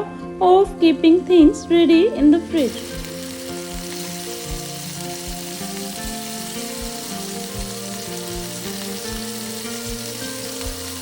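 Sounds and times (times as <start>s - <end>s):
background music: 0.0s - 11.0s
food sizzling in a pan: 0.8s - 11.0s.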